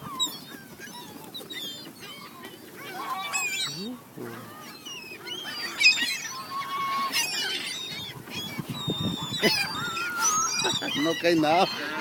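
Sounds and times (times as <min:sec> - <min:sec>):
flock of birds squawking: 0:00.0 - 0:12.0.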